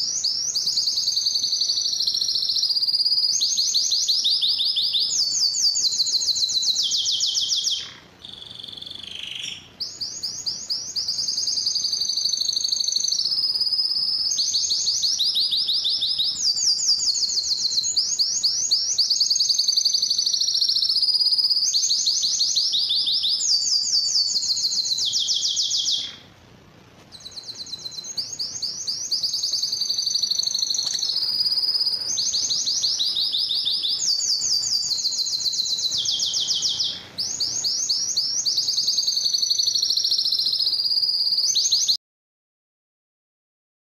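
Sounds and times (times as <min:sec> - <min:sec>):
canary singing trills: 0:00.0 - 0:26.3, 0:27.1 - 0:42.0.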